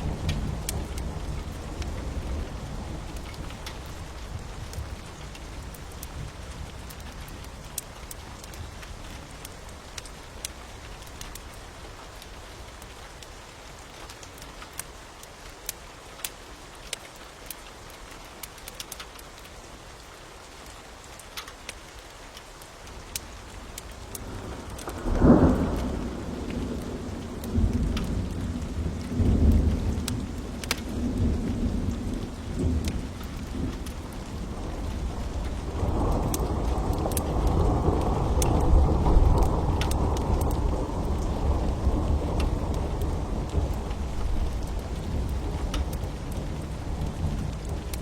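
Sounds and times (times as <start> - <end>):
steady rain: 0.0 - 48.0
wood fire crackling: 0.0 - 48.0.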